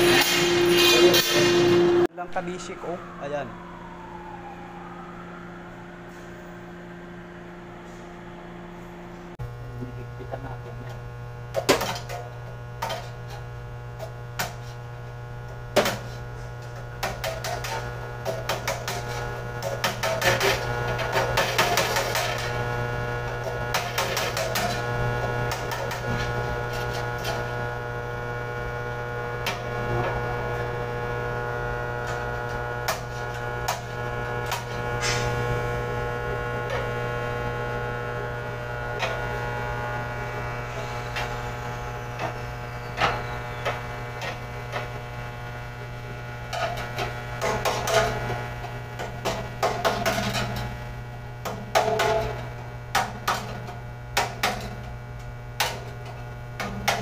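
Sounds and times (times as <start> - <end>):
mains hum: 4.9 - 57.0.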